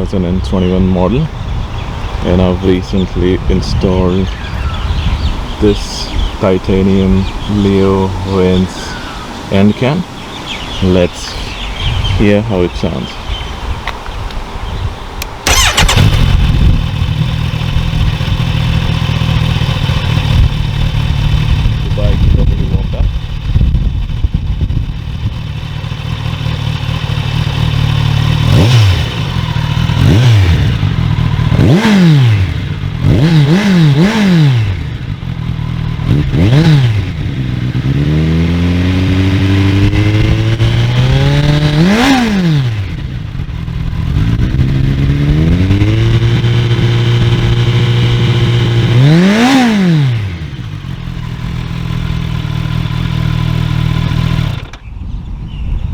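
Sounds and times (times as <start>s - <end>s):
motorcycle engine revving: 0.0s - 12.7s, 14.7s - 54.9s.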